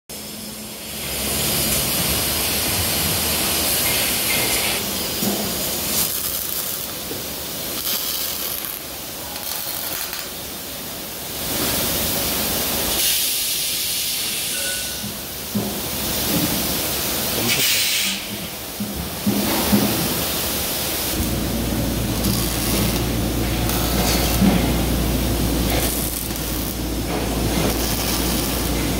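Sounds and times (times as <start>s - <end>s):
machinery noise: 0.1s - 12.6s, 14.2s - 28.9s
arc welder welding bursts: 0.2s - 14.7s, 20.1s - 28.9s.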